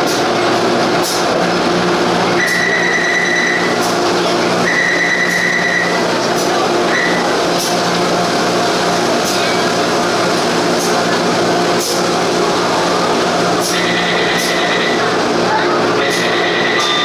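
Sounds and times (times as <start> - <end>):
train wheels rumbling: 0.0 - 17.0
high squeal of train: 2.3 - 17.0.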